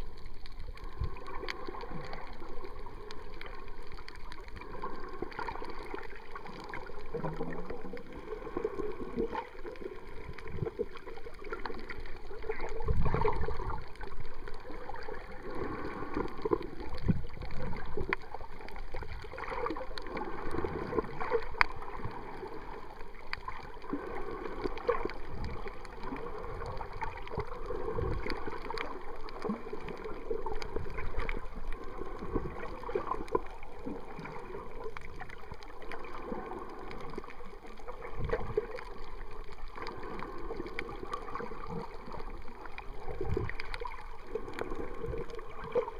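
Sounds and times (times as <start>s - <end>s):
underwater gurgling and sloshing: 0.0s - 45.9s.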